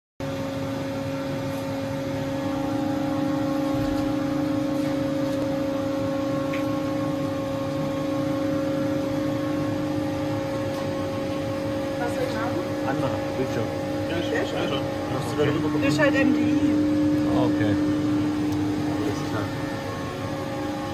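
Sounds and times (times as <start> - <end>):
lathe humming with two tones: 0.2 - 20.9.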